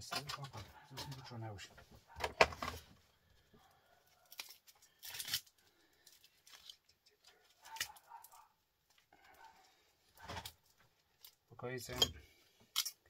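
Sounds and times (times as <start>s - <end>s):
hands rustling wire: 2.2s - 13.0s.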